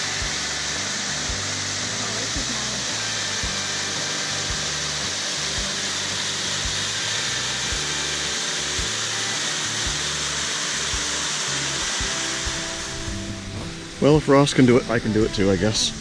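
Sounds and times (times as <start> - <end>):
faint background music: 0.0 - 16.0
waterfall rushing: 0.0 - 16.0.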